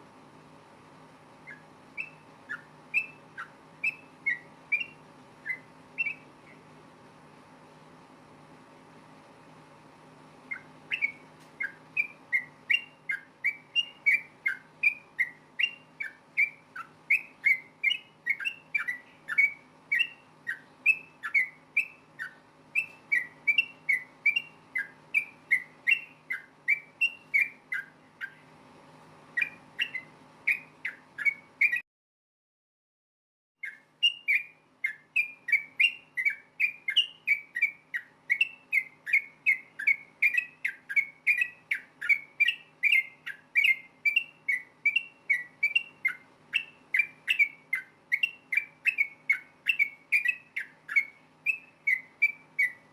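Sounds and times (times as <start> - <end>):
faint steady hum: 0.0 - 31.8, 33.6 - 52.9
bird singing whistled notes: 1.4 - 6.6, 10.5 - 28.5, 29.4 - 31.8, 33.6 - 52.9.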